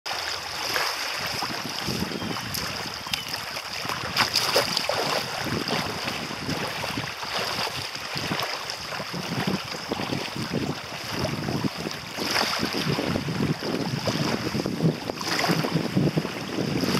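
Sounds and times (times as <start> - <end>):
person wading and splashing: 0.1 - 16.9
waves lapping on sandy shore: 0.1 - 16.9
wind buffeting microphone: 0.2 - 16.9.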